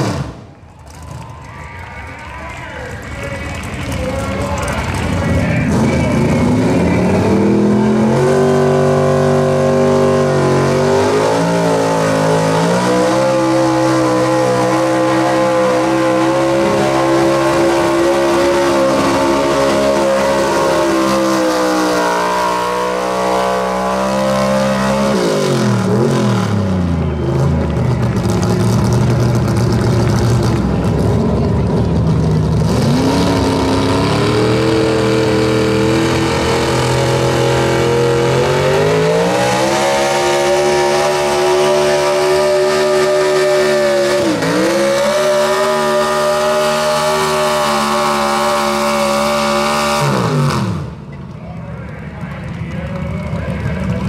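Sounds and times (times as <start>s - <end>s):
truck engine at high revs: 0.0s - 54.0s
truck engine revving up: 0.0s - 54.0s.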